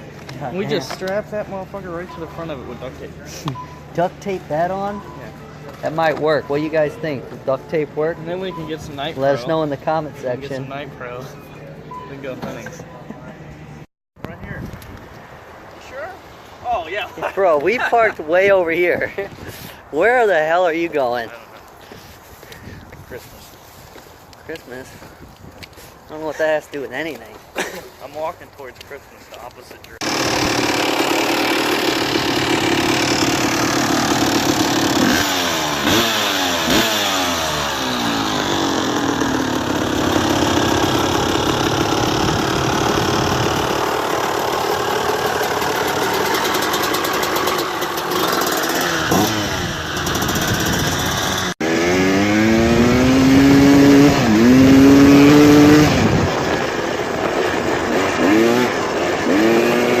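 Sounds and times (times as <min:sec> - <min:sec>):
dirt bike engines revving: 0:00.0 - 0:13.5, 0:15.8 - 0:22.0, 0:25.9 - 1:00.0.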